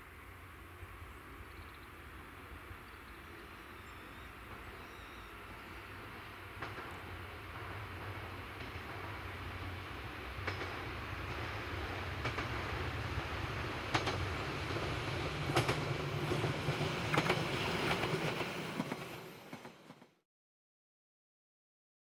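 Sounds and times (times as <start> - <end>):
diesel train engine drone: 0.0 - 19.8.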